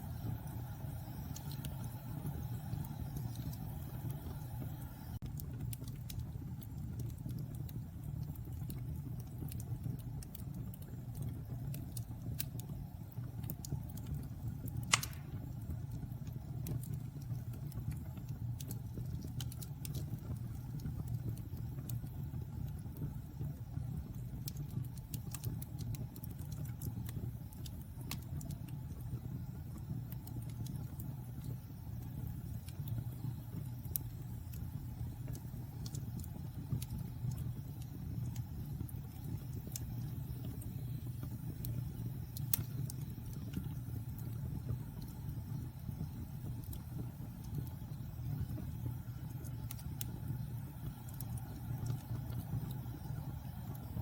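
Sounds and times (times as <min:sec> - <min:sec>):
burning wood crackling and popping: 0:00.0 - 0:54.0
fire flames rumbling: 0:00.0 - 0:54.0.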